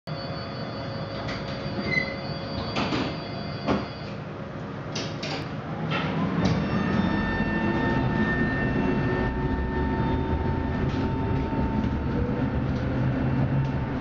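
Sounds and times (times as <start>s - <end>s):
tram motor whine: 0.1s - 4.6s, 5.6s - 14.0s
tram equipment hum: 0.1s - 14.0s.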